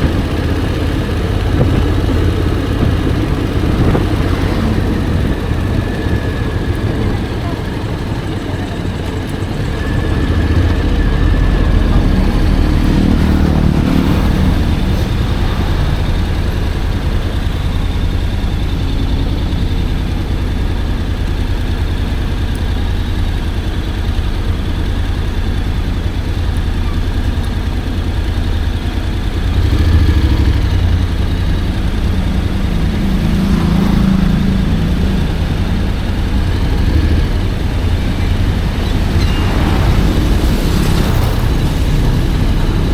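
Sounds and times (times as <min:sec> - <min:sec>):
motorcycle engine rumbling: 0:00.0 - 0:42.9.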